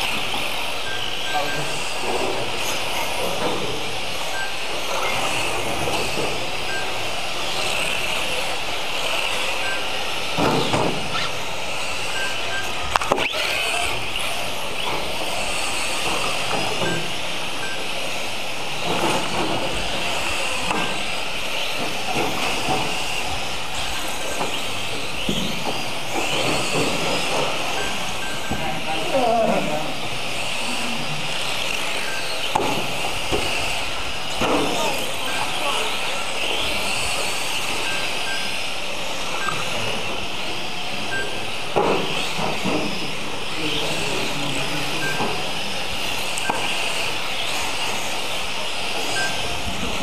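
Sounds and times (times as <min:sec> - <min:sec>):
toy car motors whining: 0:00.0 - 0:50.0.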